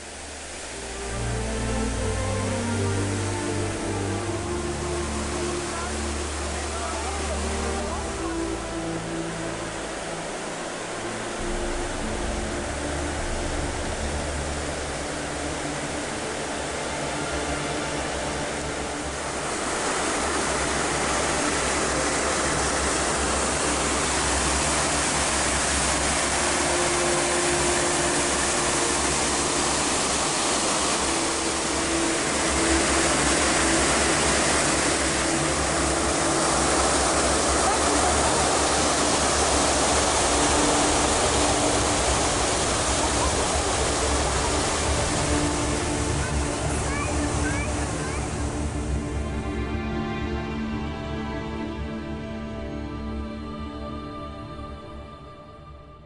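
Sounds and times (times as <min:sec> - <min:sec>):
waterfall rushing: 0:00.0 - 0:51.5.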